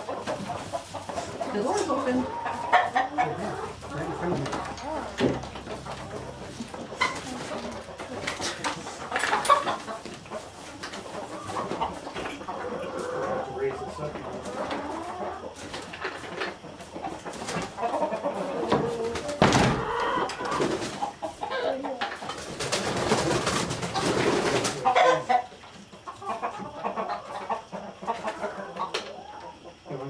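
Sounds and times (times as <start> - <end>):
chickens clucking and crooning: 0.0 - 30.0.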